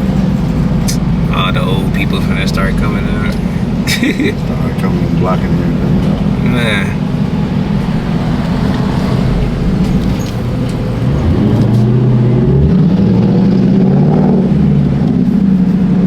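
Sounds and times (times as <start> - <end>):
car engine revving while driving: 0.0 - 16.0.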